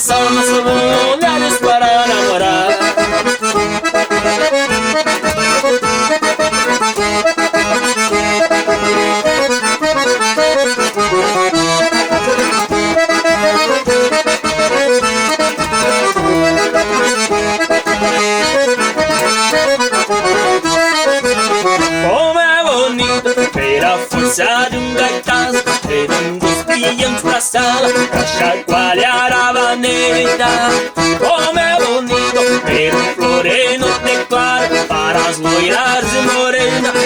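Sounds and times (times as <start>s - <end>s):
accordion solo: 0.0s - 37.0s
dance beat: 0.0s - 37.0s.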